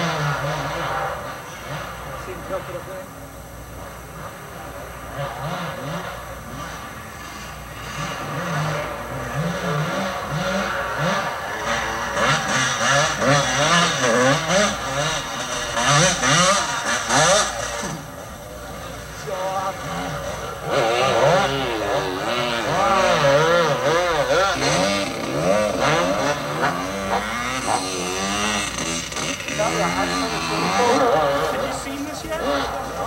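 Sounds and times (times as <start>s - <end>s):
two-stroke motorbike engine revving: 0.0s - 33.0s.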